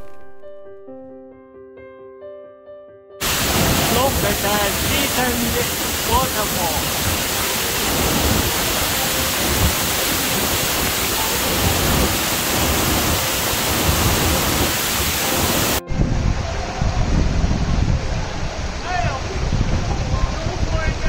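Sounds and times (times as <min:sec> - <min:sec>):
waterfall rushing: 0:03.2 - 0:21.0.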